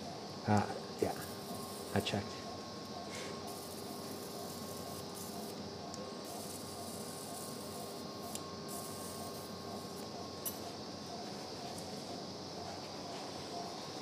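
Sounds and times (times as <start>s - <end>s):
faint steady tone: 0.0s - 14.0s
steady hiss: 0.0s - 14.0s.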